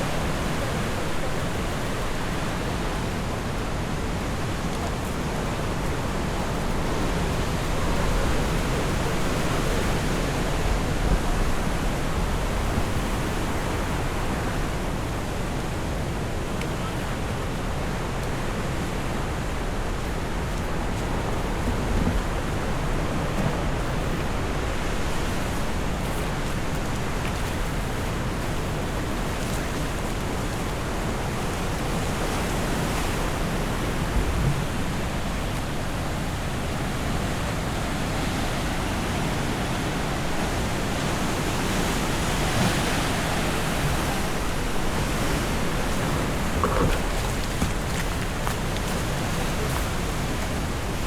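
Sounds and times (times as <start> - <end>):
sea surf: 0.0 - 51.0
wind: 0.0 - 51.0
wind rumble on microphone: 0.0 - 51.0.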